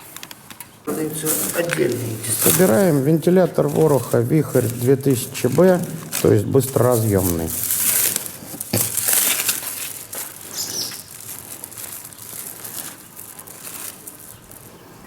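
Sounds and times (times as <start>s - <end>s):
rustling and crinkling material: 0.0s - 15.0s.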